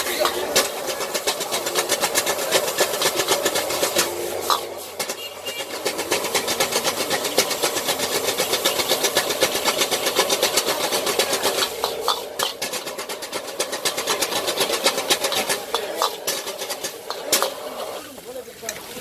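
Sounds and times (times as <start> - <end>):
metal spatulas clacking on griddle: 0.0 - 18.0.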